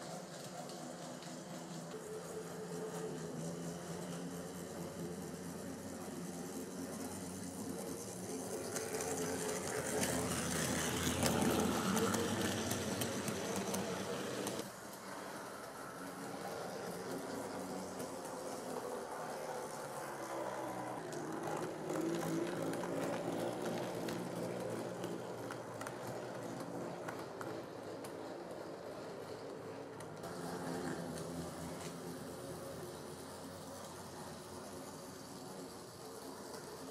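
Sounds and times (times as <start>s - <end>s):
diesel locomotive engine droning: 0.0s - 36.9s
model train motor hum: 0.0s - 36.9s
wheels clicking on track: 0.0s - 36.9s.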